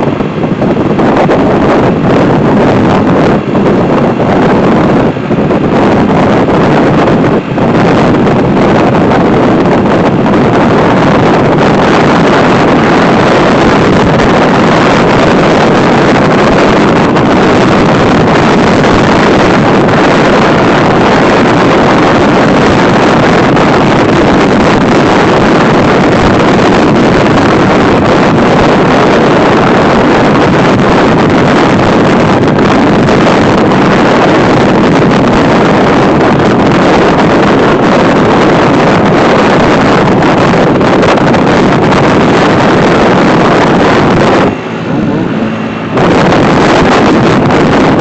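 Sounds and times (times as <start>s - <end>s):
wind rushing on microphone: 0.0s - 48.0s.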